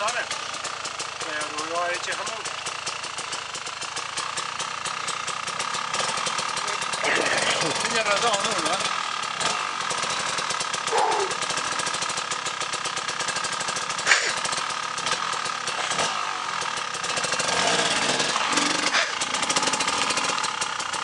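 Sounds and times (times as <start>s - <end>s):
dirt bike engine at low revs: 0.0s - 21.0s.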